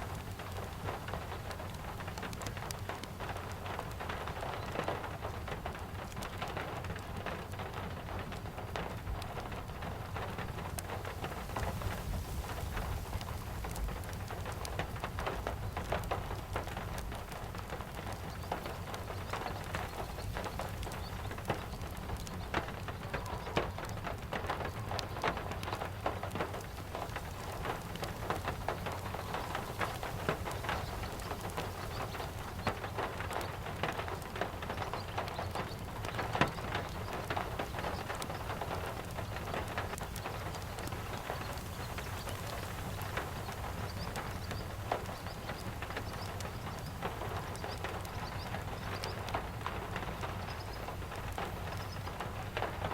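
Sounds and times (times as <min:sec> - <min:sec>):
fire crackling and popping: 0:00.0 - 0:52.9
steady rain falling: 0:00.0 - 0:52.9.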